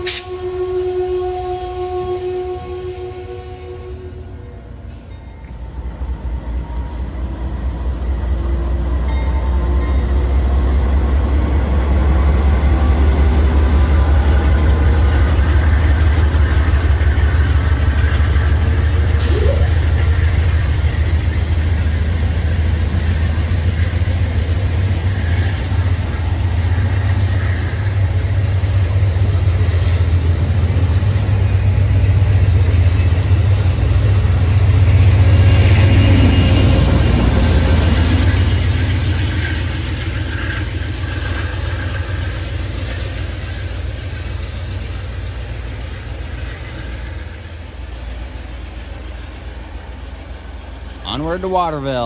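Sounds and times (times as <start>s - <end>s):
diesel locomotive engine rumble: 0.0s - 52.0s
train wheels on rails: 0.0s - 52.0s.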